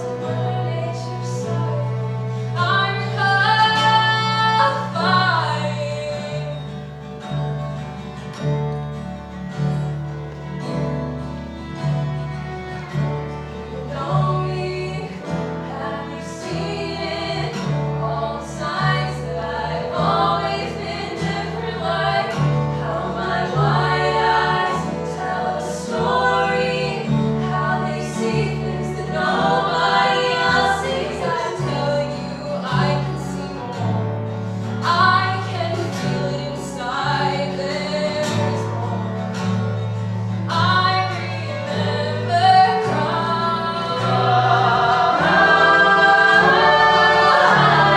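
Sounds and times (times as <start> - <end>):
group of voices singing: 0.0 - 6.8, 13.7 - 39.5, 40.5 - 47.9
instrumental accompaniment: 0.0 - 47.9.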